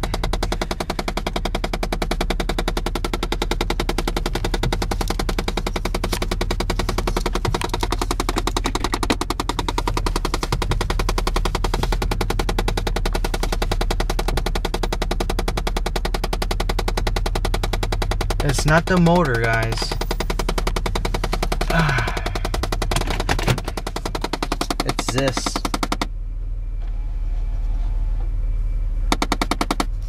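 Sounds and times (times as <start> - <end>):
actuator motor knocking in dashboard: 0.0 - 26.1, 29.1 - 30.0.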